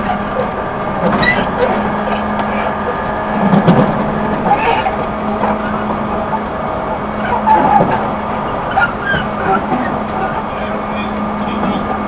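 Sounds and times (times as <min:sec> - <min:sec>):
train interior hum: 0:00.0 - 0:12.0.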